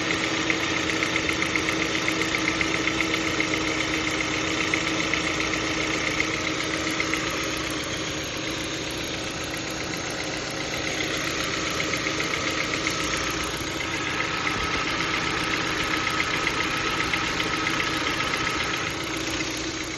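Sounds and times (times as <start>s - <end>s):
car engine knocking: 0.0s - 19.9s.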